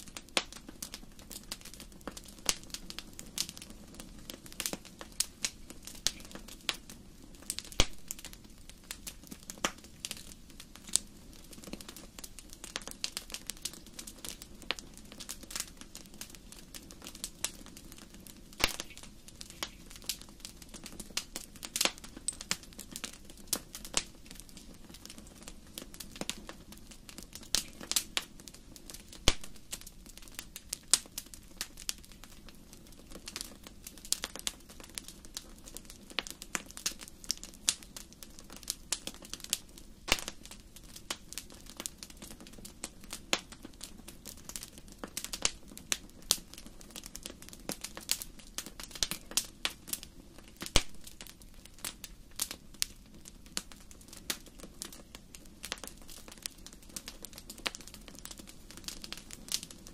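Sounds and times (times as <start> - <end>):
sharp pops from fire: 0.0 - 59.9
wood fire crackling: 0.0 - 59.9.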